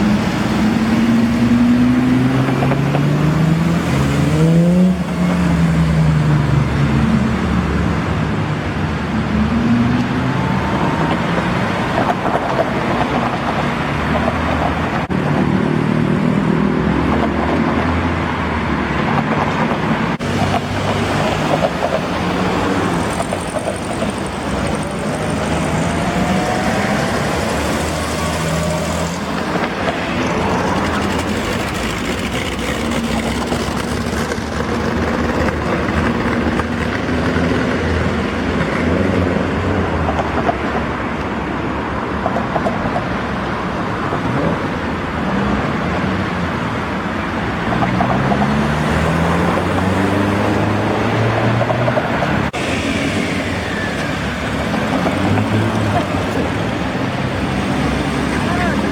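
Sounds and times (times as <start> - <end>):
car engines driving past: 0.0 - 58.9.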